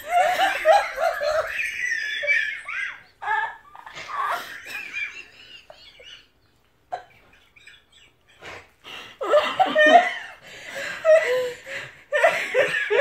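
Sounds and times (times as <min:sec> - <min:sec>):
woman laughing hard: 0:00.0 - 0:13.0.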